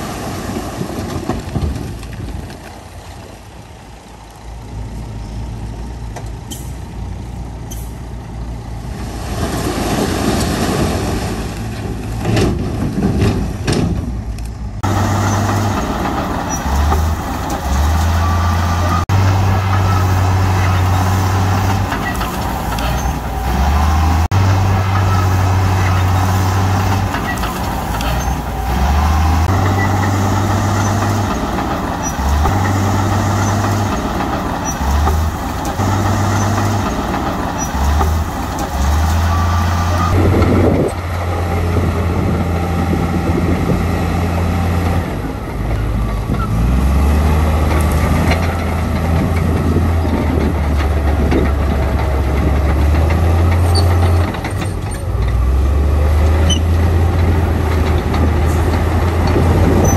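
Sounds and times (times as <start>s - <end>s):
diesel machinery rumbling: 0.0s - 59.9s.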